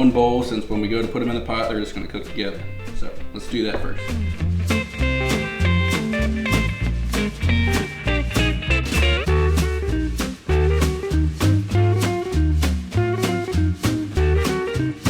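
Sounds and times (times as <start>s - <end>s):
guitar-led music with beat: 2.2s - 15.0s.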